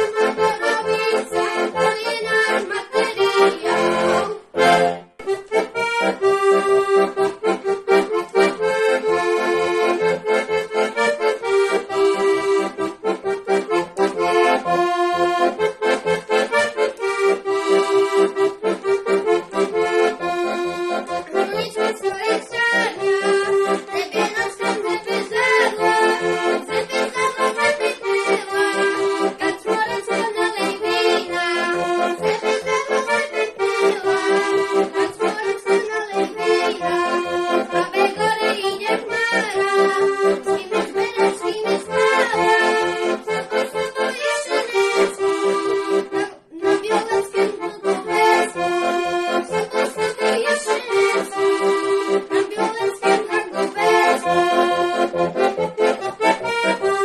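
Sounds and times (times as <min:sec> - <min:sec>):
button accordion playing folk tune: 0:00.0 - 0:57.0.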